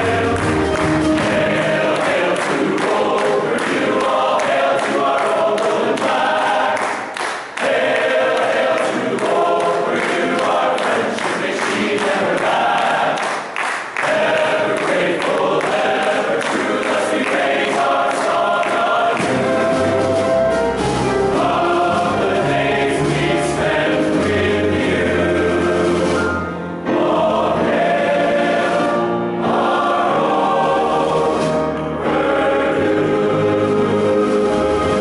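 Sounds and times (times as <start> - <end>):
men's choir singing: 0.0 - 13.4, 14.0 - 35.0.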